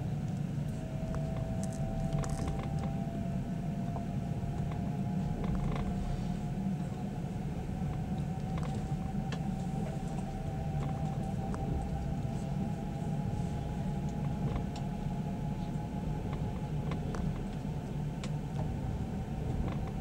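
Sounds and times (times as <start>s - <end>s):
steady whining tone: 0.0s - 20.0s
train carriage low rumble: 0.0s - 20.0s.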